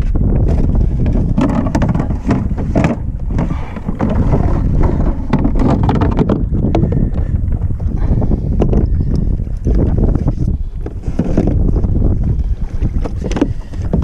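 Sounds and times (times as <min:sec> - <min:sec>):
water slapping kayak hull: 0:00.0 - 0:14.0
wind buffeting microphone: 0:00.0 - 0:14.0.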